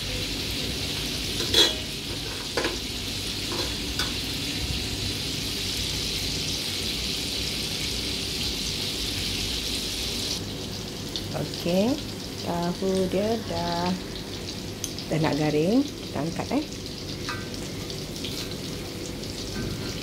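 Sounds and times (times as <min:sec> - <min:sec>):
tofu sizzling in hot oil: 0:00.1 - 0:20.0.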